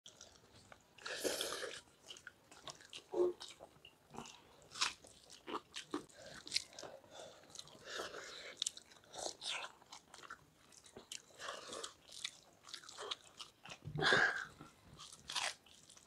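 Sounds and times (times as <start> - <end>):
wet chewing and mouth sounds: 0.1 - 16.0.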